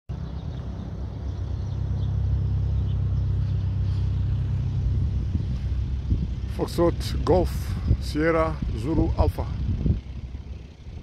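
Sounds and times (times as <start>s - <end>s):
propeller aircraft engine droning: 0.1s - 11.0s.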